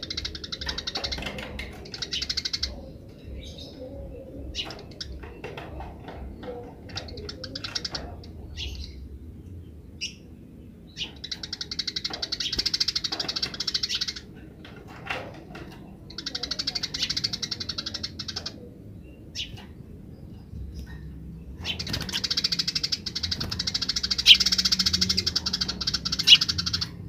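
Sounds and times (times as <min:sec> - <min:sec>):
sparrows chirping: 0:00.0 - 0:27.0.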